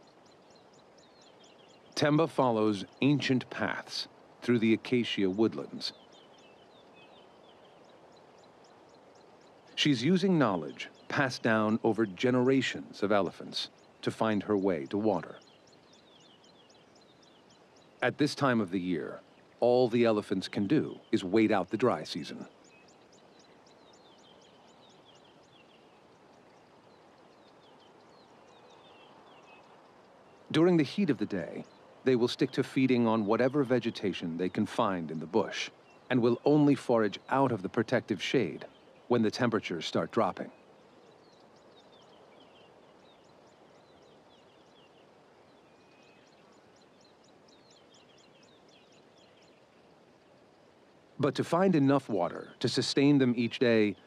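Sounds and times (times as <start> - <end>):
background hiss: 0.0 - 54.0
small birds chirping: 0.0 - 54.0.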